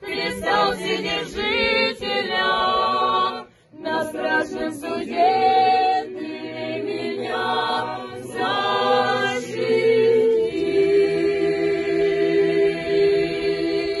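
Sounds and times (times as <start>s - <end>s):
women singing a hymn: 0.0s - 14.0s.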